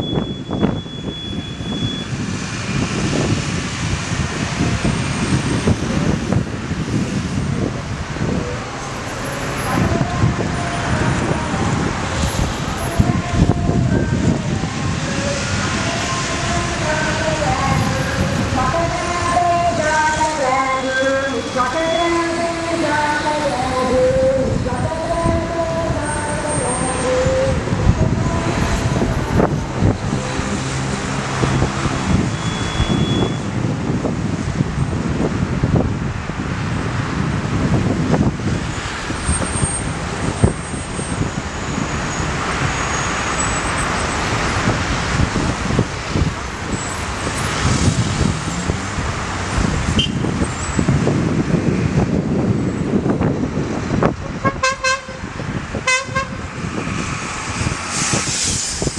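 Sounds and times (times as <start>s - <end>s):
city road traffic: 0.0s - 58.9s.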